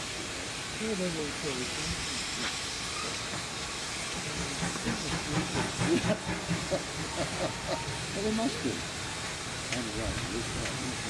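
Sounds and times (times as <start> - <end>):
hiss of steam: 0.0 - 11.0
steam locomotive knocks and beats: 2.0 - 11.0.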